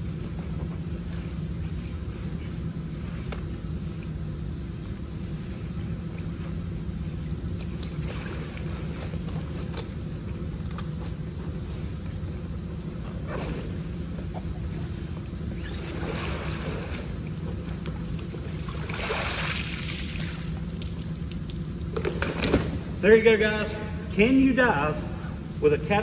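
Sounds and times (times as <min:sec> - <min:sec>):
room rumble and hum: 0:00.0 - 0:26.0.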